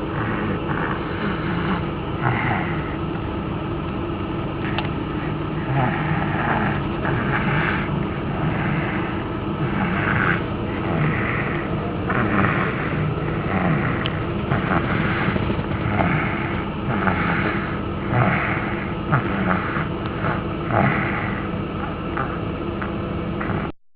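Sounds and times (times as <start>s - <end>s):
person snoring: 0.0s - 3.1s, 4.6s - 22.6s, 23.4s - 23.7s.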